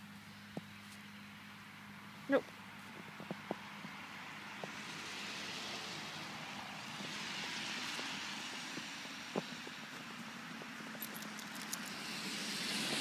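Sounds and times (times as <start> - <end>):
distant engine passing: 1.1 - 13.0.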